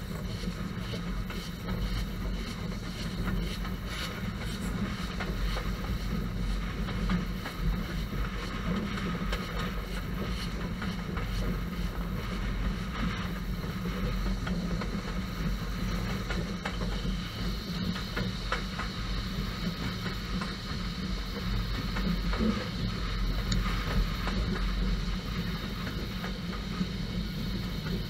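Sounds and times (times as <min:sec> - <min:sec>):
train rumbling: 0:00.0 - 0:28.0
train wheels clicking: 0:00.0 - 0:28.0.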